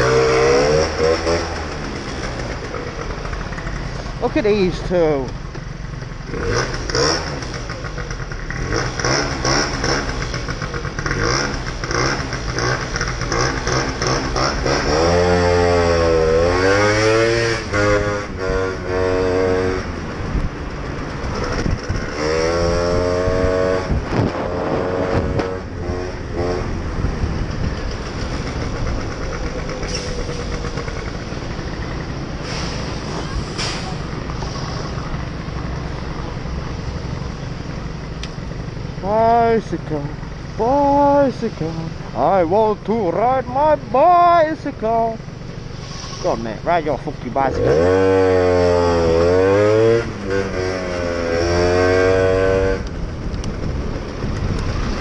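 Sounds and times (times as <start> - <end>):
scooter engine accelerating: 0.0 - 4.6, 5.2 - 55.0.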